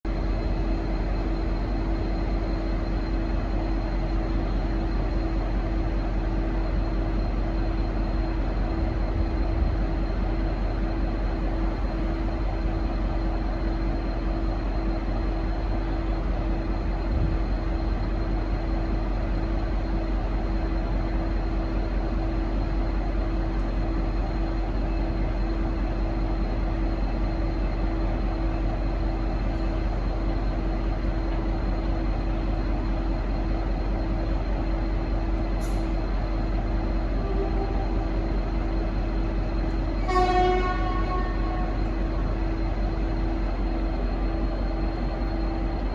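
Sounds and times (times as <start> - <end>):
diesel locomotive engine drone: 0.0 - 45.9.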